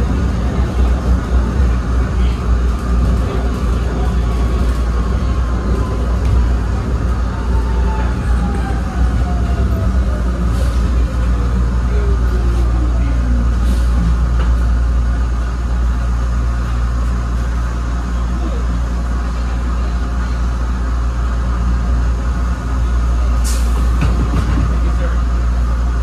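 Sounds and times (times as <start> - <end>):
rail car rumbling along track: 0.0 - 26.0.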